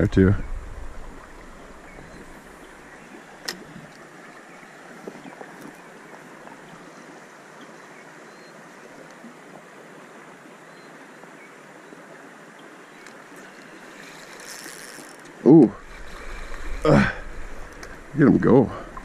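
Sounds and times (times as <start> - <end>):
stream water running: 0.0 - 19.0.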